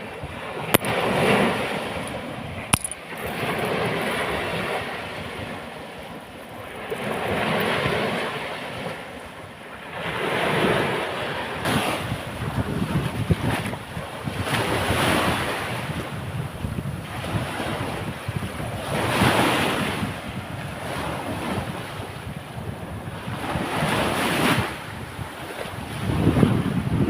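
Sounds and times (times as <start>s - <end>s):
sea waves breaking on beach: 0.0s - 27.0s
wind on microphone: 0.0s - 27.0s.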